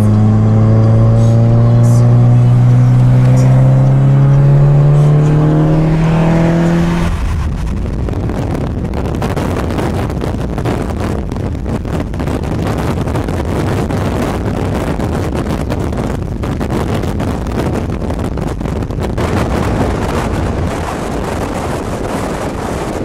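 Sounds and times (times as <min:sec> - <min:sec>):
engine rumble: 0:00.0 - 0:23.0
road noise: 0:00.0 - 0:23.0
wind buffeting microphone: 0:00.0 - 0:23.0.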